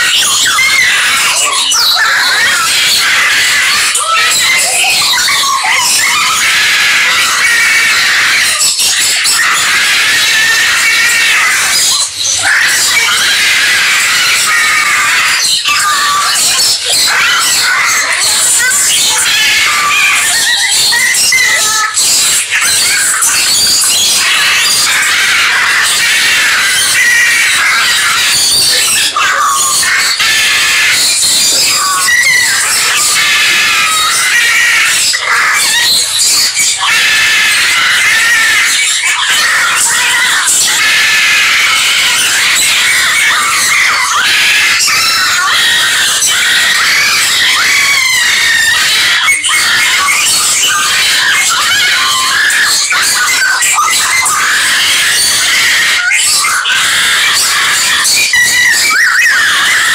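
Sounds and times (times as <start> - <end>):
birds chirping and squeaking: 0.0 - 59.9.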